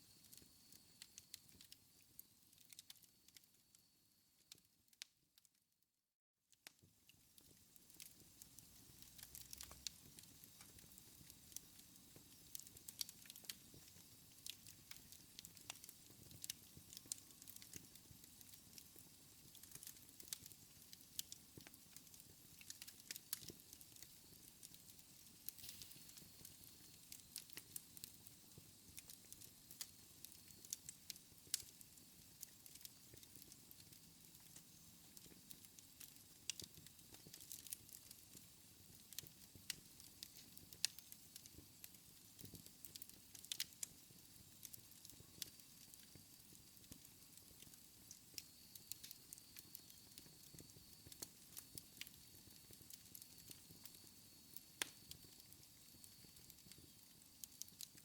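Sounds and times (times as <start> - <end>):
wood fire crackling: 0.0 - 3.8, 6.6 - 58.0
low steady hiss: 0.0 - 5.0, 6.6 - 58.0.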